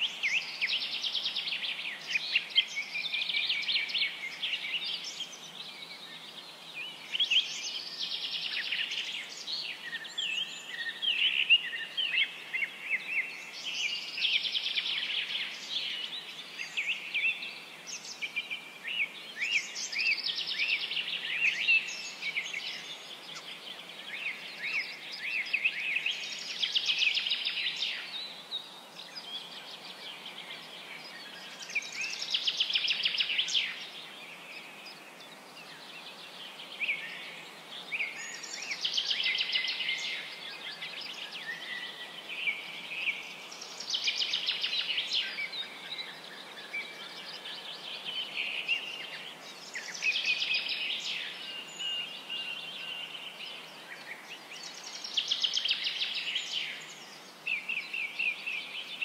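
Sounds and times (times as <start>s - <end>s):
faint hiss: 0.0s - 59.0s.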